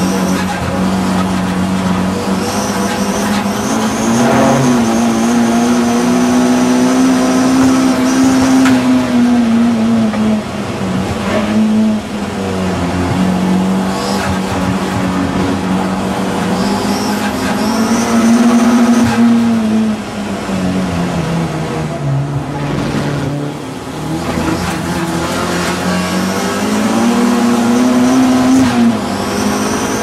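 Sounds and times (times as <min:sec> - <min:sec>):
race car engine running hard: 0:00.0 - 0:30.0.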